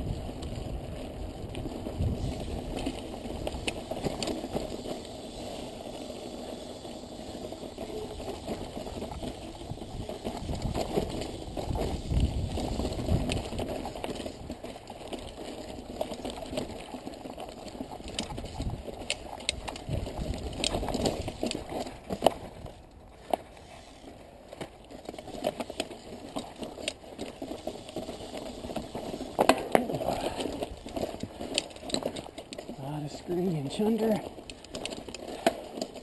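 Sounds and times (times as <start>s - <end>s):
bike rattling over rocks: 0.0s - 36.0s
tyres crunching on gravel: 0.0s - 36.0s.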